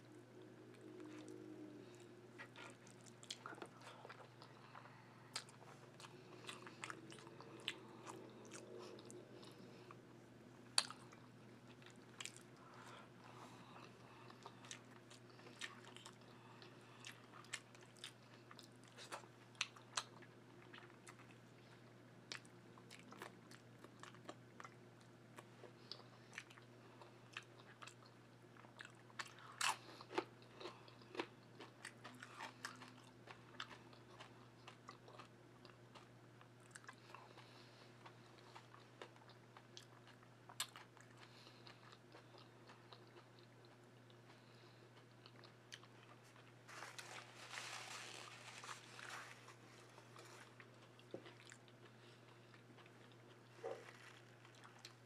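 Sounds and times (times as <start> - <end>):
person chewing food: 0.4 - 10.0, 10.6 - 55.0.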